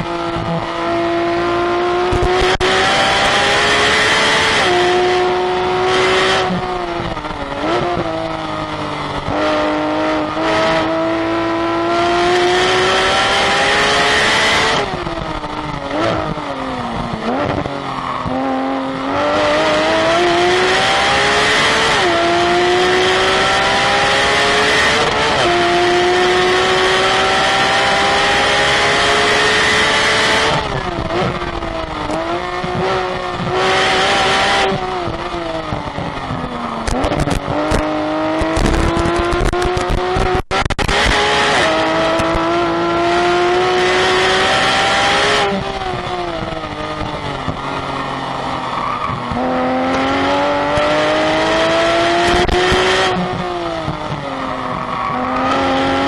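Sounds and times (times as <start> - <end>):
racing car engine revving: 0.0 - 56.0
wind and tyre noise: 0.0 - 56.0.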